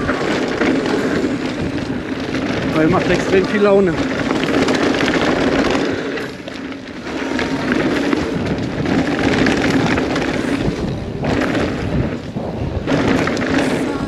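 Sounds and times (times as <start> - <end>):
bike clattering: 0.0 - 14.0
tyres rumbling on dirt: 0.0 - 14.0
wind noise on microphone: 0.0 - 14.0.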